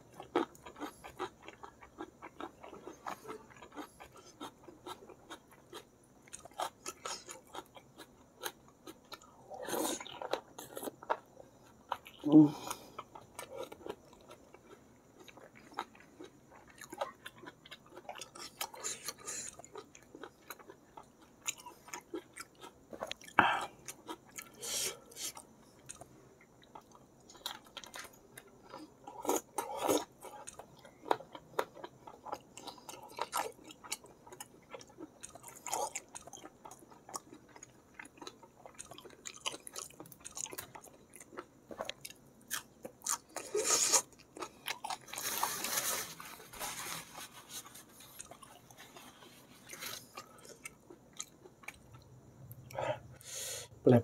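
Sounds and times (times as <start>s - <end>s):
person chewing: 0.1s - 53.6s.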